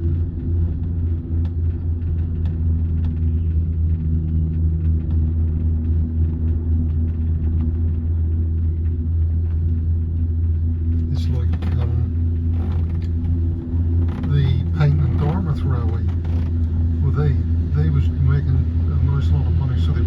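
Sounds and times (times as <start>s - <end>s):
vehicle interior rumble: 0.0s - 20.0s
faint clicks and rattles: 0.1s - 20.0s.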